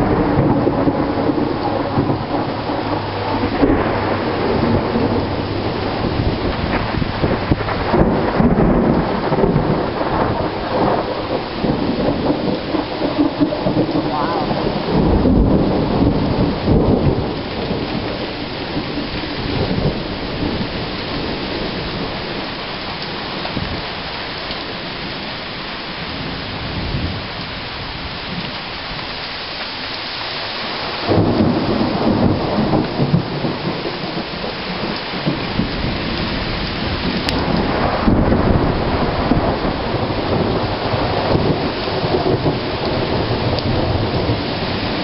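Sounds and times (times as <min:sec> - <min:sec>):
steady rain: 0:00.0 - 0:45.0
thunder rumbling: 0:00.0 - 0:45.0.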